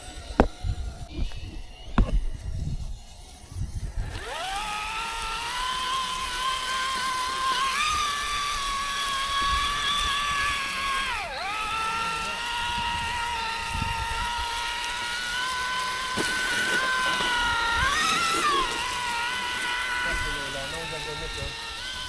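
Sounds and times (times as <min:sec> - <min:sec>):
small electric motor whine: 0:00.0 - 0:22.0.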